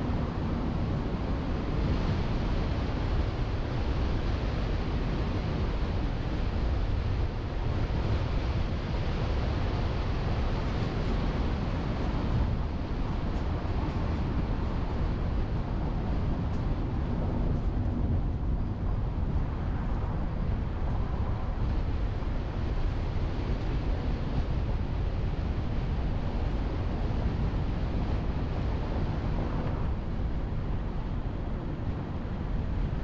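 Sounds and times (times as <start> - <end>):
road noise: 0.0 - 33.0
wind on microphone: 0.0 - 33.0.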